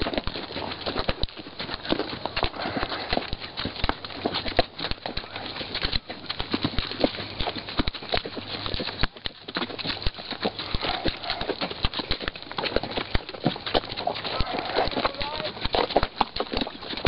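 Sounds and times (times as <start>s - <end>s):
horse hooves on stony ground: 0.0s - 17.0s.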